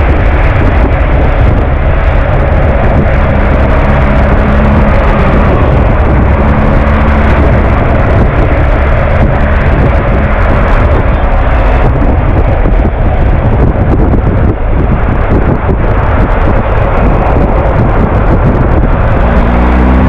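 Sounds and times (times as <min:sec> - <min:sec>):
steady hum: 0:00.0 - 0:19.8
motorcycle engine at road speed: 0:00.0 - 0:20.0
wind rush over microphone: 0:00.0 - 0:20.0.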